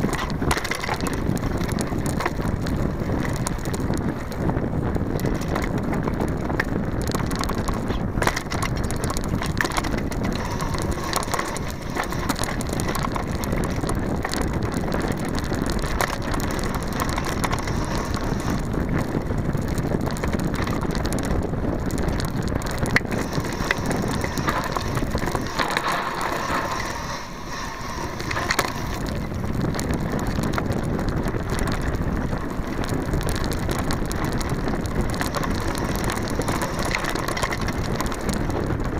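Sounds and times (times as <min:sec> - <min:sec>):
mountain bike rattling: 0:00.0 - 0:38.9
tyre and trail noise: 0:00.0 - 0:38.9.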